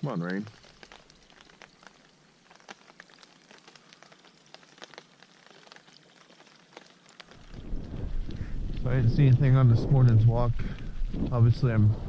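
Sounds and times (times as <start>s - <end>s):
light rain falling: 0.0s - 12.0s
raindrops ticking: 0.0s - 12.0s.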